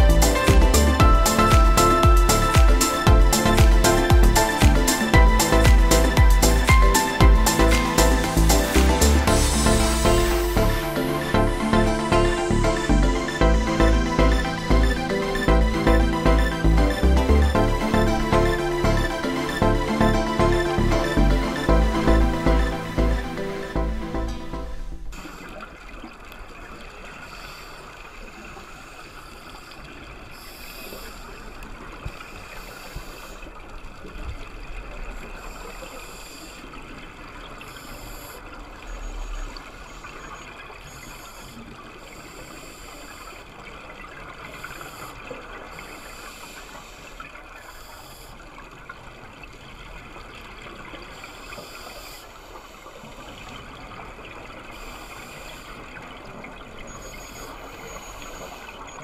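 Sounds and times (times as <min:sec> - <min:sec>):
underwater rush: 0:00.0 - 0:59.0.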